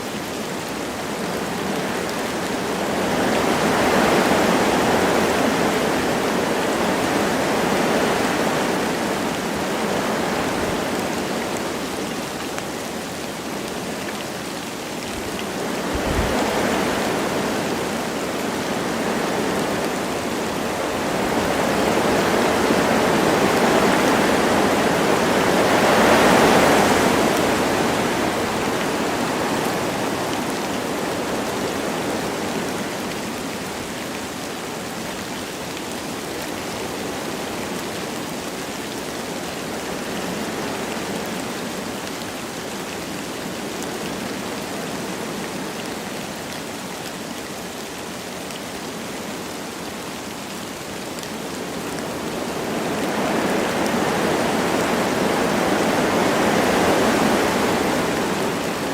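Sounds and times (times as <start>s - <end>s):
light rain: 0.0s - 58.9s
wind through trees: 0.0s - 58.9s.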